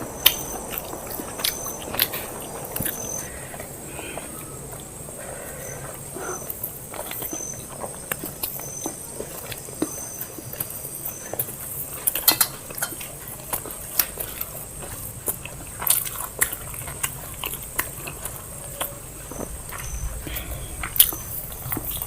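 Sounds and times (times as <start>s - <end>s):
close-up chewing: 0.0s - 22.0s.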